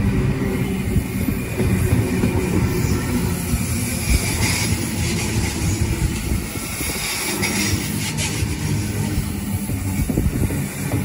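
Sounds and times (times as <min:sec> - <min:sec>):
electric train wheels rumbling: 0:00.0 - 0:11.0
train hiss: 0:00.0 - 0:11.0.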